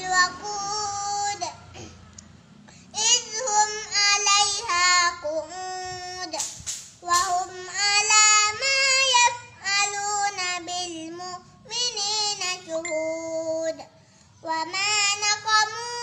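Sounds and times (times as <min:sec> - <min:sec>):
boy chanting a recitation: 0:00.0 - 0:02.1, 0:02.8 - 0:16.0.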